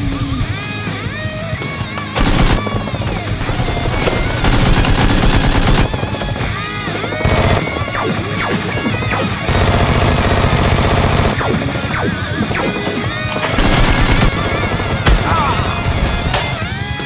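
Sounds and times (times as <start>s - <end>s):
background music: 0.0s - 17.0s
automatic gunfire bursts: 1.9s - 16.6s.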